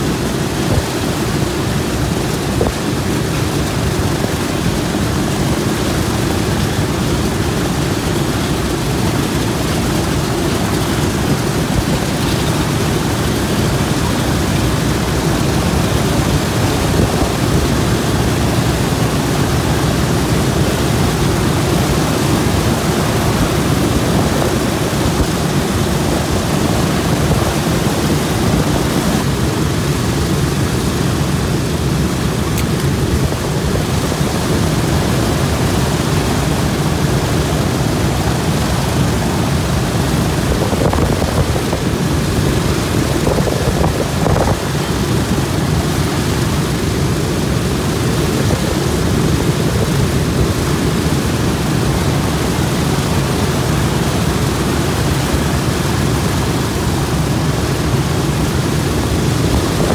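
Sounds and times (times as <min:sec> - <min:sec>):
aircraft radial engines idling: 0:00.0 - 0:59.9.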